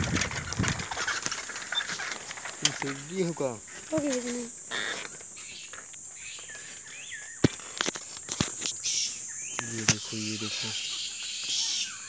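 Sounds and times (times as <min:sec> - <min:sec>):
short chirping calls: 0:00.0 - 0:02.2, 0:02.9 - 0:12.0
insects buzzing: 0:00.0 - 0:12.0.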